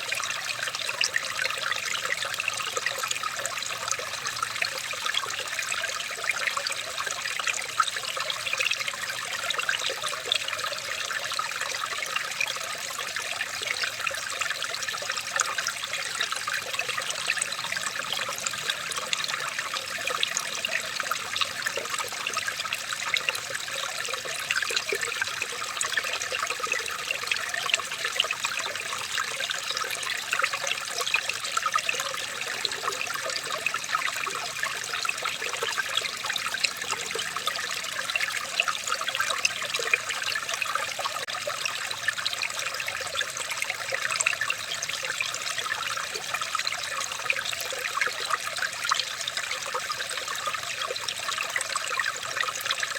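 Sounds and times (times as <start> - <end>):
water trickling and babbling: 0.0 - 52.9.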